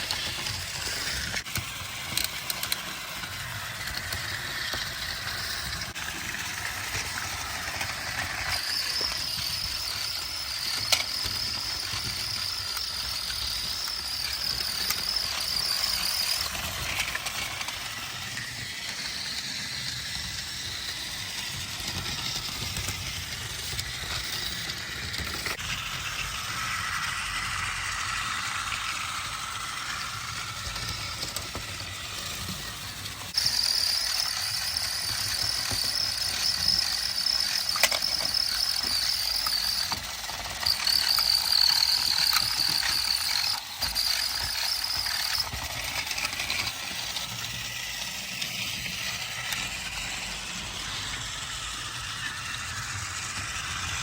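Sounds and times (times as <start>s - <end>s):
toy train motor whirring: 0.0s - 54.0s.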